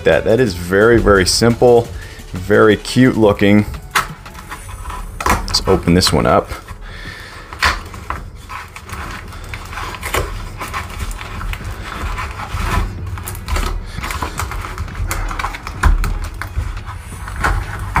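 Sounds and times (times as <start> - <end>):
cardboard box rustling and scraping: 3.0 - 18.0.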